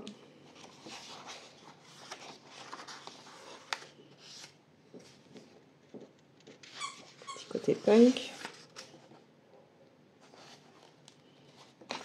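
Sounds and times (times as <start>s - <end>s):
paper rustling: 0.5s - 9.2s, 10.2s - 12.0s.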